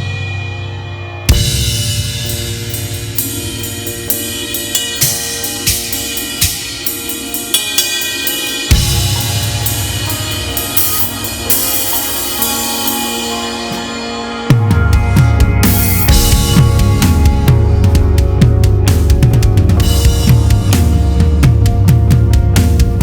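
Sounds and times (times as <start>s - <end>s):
cymbal crashes: 0.0s - 21.2s
backing music track: 0.0s - 23.0s
drum kit playing: 0.0s - 23.0s.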